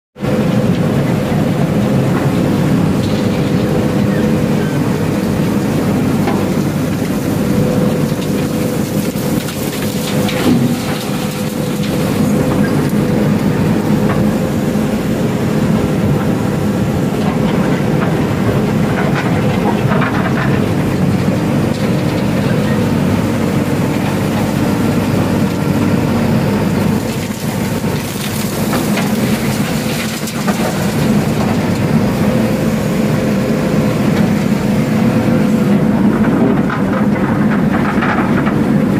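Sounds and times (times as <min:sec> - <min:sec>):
diesel engine under hydraulic load: 0:00.2 - 0:38.9.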